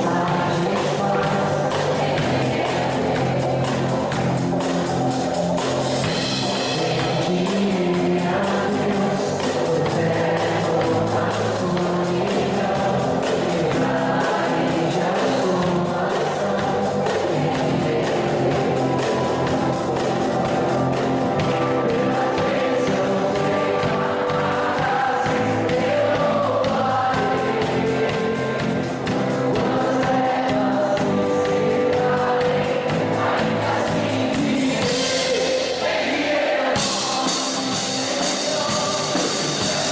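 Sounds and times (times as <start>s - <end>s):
live rock band: 0.0s - 39.9s
people singing: 0.0s - 39.9s.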